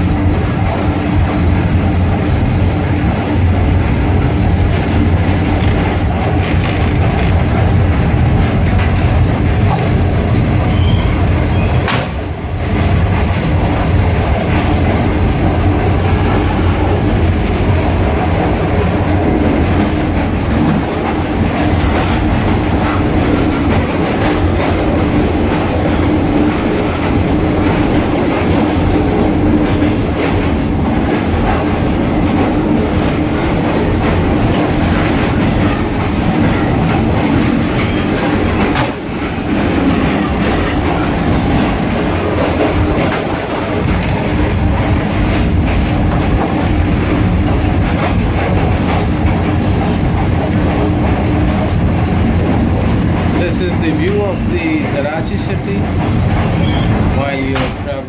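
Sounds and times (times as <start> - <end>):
train carriage rumble: 0.0 - 58.0
wheels clattering over rail joints: 0.2 - 58.0.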